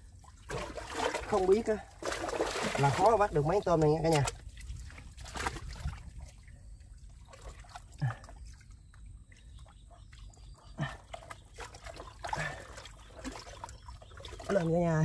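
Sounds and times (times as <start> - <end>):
wet mud squelching: 0.1 - 15.0.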